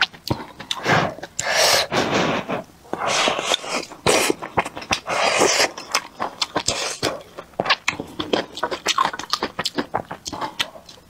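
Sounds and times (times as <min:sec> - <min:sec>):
soft chewing: 0:00.0 - 0:11.0
slurping soup and noodles: 0:00.4 - 0:10.9.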